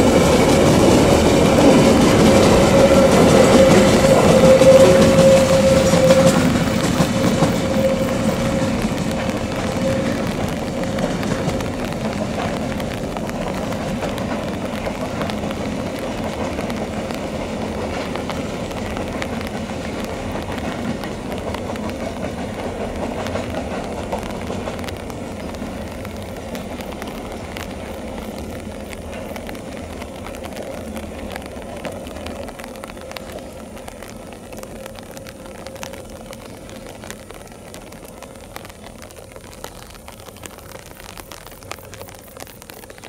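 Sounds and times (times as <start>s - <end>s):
freight train rumbling on rails: 0.0s - 43.0s.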